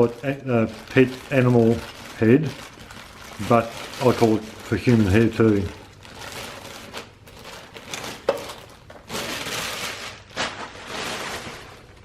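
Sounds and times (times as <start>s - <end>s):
plastic parts and packaging rustling: 0.0s - 12.0s.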